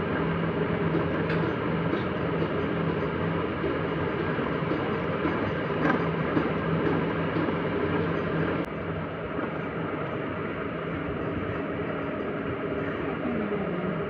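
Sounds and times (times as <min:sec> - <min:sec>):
workshop machine humming: 0:00.0 - 0:14.0.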